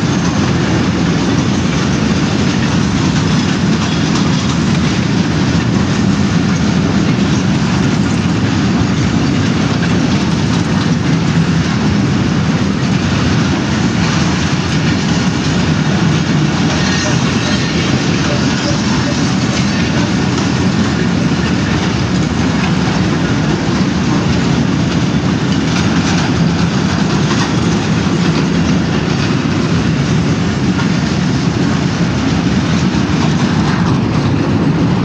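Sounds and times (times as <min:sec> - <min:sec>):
train wheels rumbling on rails: 0:00.0 - 0:35.0
wheels clicking over rail joints: 0:00.0 - 0:35.0.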